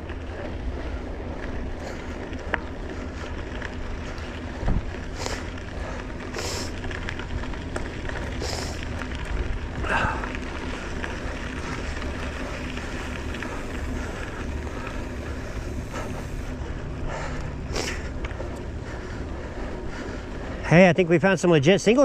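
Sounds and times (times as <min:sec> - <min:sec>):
wind rumbling on microphone: 0:00.0 - 0:20.7
bike tyres and rattling: 0:00.0 - 0:22.0.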